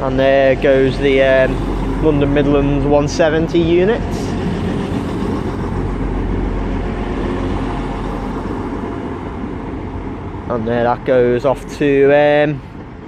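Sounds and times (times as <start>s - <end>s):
diesel train engines droning: 0.0s - 13.0s.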